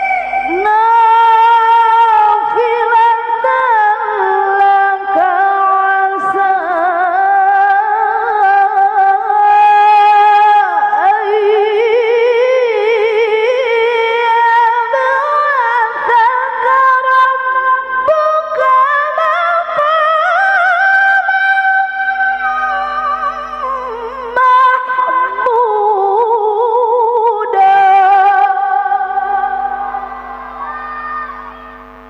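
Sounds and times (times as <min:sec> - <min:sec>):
woman reciting melodically: 0:00.0 - 0:32.0.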